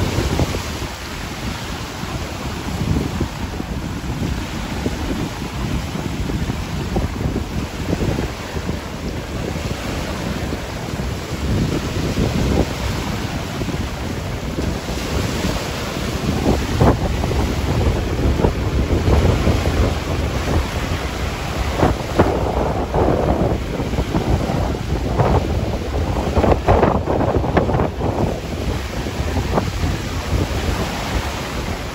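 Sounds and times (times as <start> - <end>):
strong gusty wind: 0.0 - 31.9.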